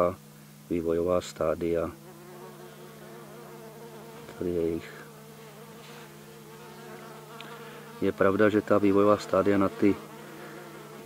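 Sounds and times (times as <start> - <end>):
bees humming: 0.0 - 11.0.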